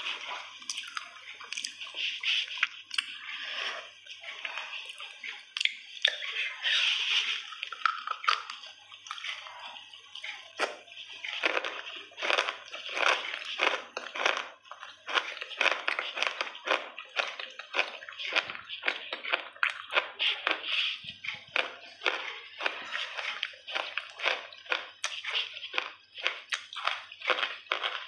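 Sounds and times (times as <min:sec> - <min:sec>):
crunchy chewing: 0:00.0 - 0:28.0
wet mouth sounds: 0:00.0 - 0:28.0.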